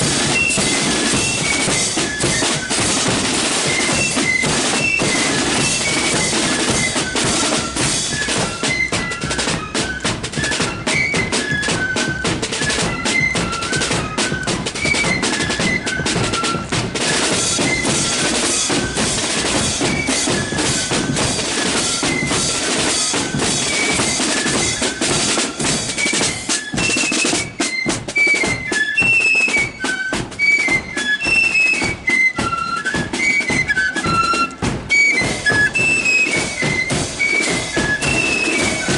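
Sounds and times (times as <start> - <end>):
flute melody: 0.0 - 38.9
rapid snare drum beats: 0.0 - 38.9.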